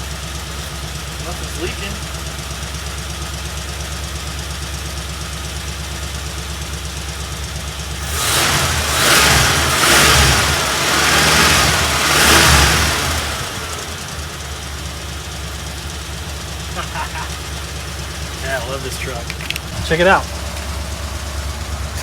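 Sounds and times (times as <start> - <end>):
truck engine idling and revving: 0.0 - 22.0.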